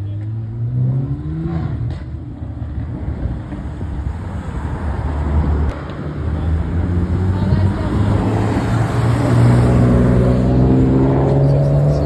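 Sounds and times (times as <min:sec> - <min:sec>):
car engines and exhausts rumbling: 0:00.0 - 0:12.0.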